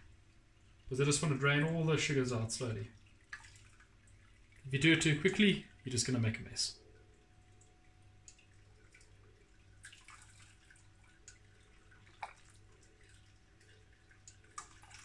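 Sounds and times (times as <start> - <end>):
faint low hum: 0.0 - 15.0
water dripping and trickling: 0.0 - 15.0.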